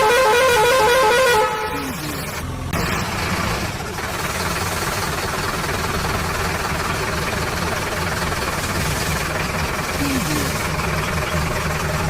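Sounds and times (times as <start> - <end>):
engine idling with low knocking: 0.0 - 12.0.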